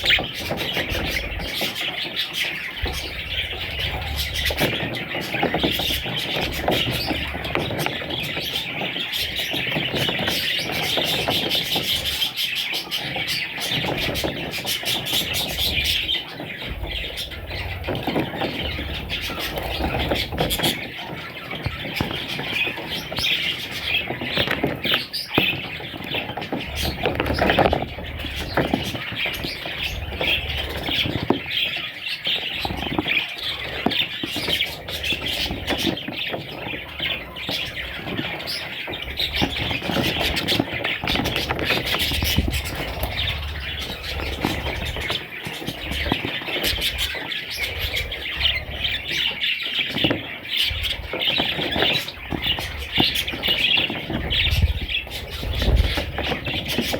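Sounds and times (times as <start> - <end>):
budgerigars chattering and warbling: 0.0 - 56.9.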